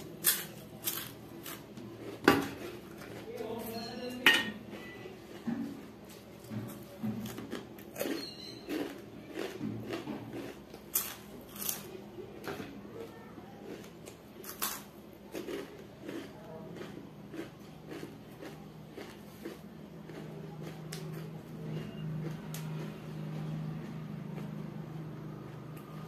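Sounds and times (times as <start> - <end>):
person chewing: 0.0 - 3.8, 4.5 - 26.0.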